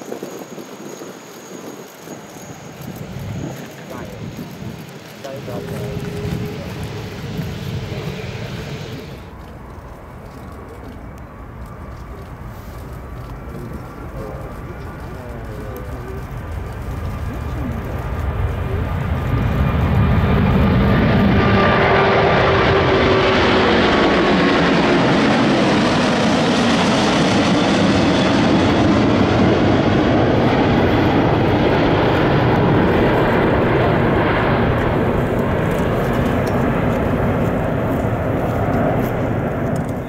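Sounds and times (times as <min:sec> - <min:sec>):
jet aircraft passing: 0:00.0 - 0:40.0.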